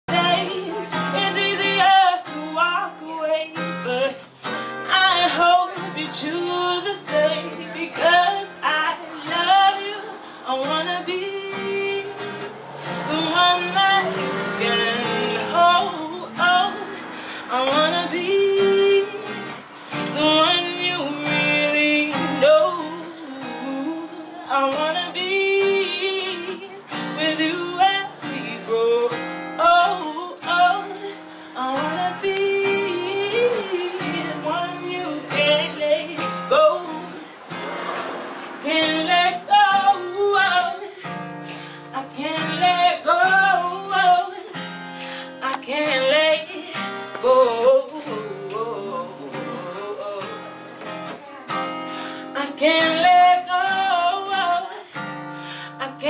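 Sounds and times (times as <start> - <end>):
acoustic guitar: 0.0 - 56.0
woman singing slow song: 0.1 - 37.6, 38.5 - 56.0.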